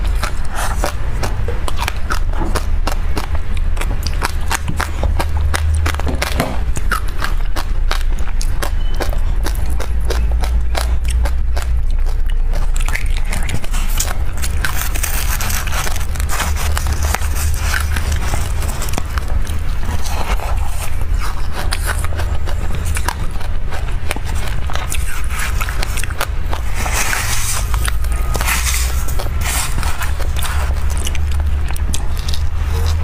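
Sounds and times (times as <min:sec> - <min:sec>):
chewing and crunching seeds: 0:00.0 - 0:33.0.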